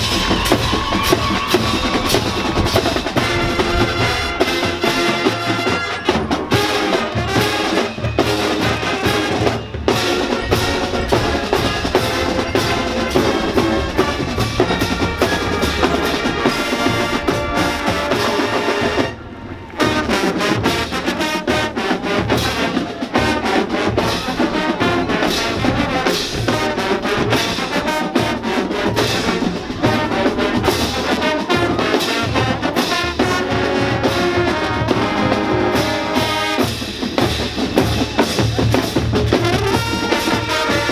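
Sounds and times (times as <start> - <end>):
brass instruments playing: 0.0 - 40.9
drumline: 0.0 - 40.9.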